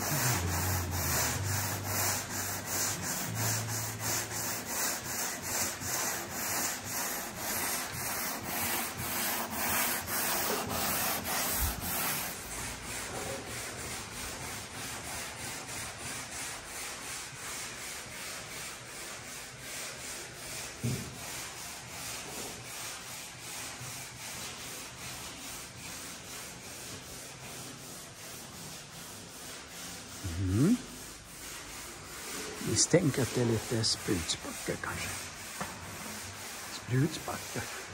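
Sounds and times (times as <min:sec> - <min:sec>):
sandpaper rasping strokes: 0:00.0 - 0:37.9.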